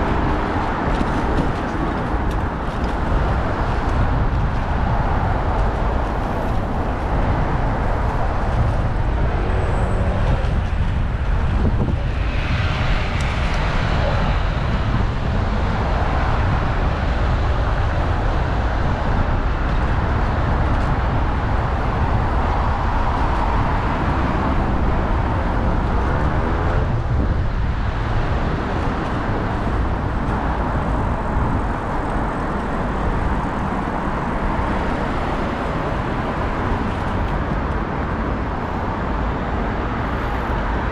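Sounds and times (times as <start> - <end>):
passing traffic: 0.0 - 40.9
road noise: 0.0 - 40.9
wind rumble: 0.0 - 40.9.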